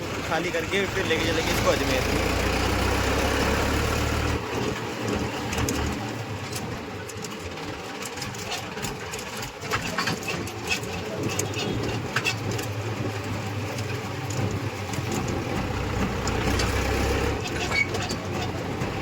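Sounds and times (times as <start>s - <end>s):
tractor diesel engine running: 0.0s - 9.8s, 10.4s - 19.0s
rattling clatter: 0.1s - 19.0s.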